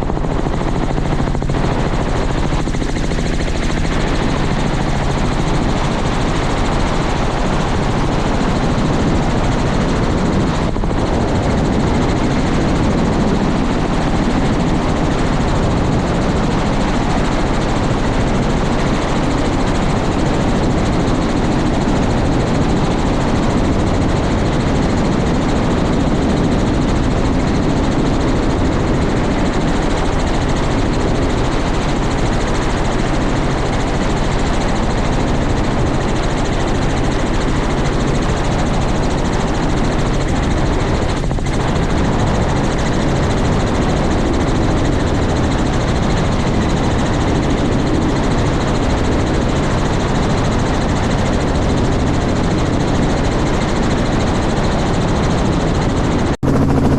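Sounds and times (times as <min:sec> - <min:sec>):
helicopter turbine and rotor: 0:00.0 - 0:56.9.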